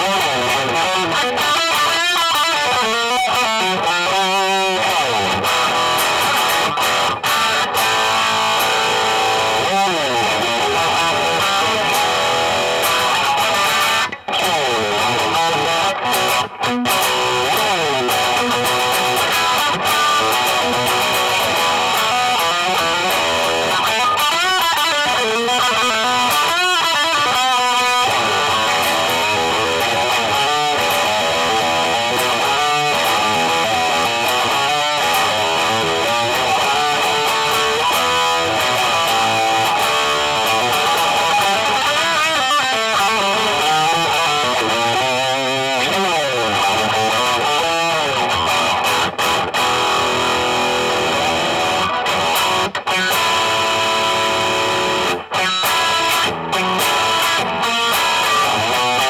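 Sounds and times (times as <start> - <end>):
electric guitar picked notes: 0.0 - 59.0.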